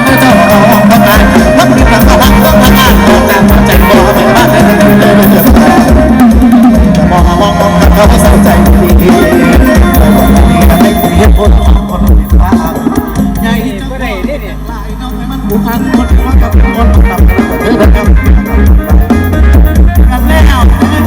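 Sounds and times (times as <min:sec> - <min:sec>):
person singing: 0:00.0 - 0:13.7, 0:15.4 - 0:21.0
loud music with bass beat: 0:00.0 - 0:21.0.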